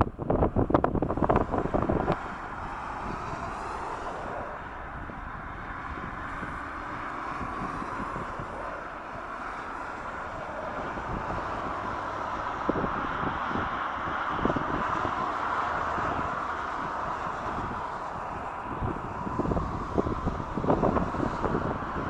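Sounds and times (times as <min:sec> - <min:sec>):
distant jet engines droning: 0:00.0 - 0:22.0
wind buffeting microphone: 0:00.0 - 0:22.0.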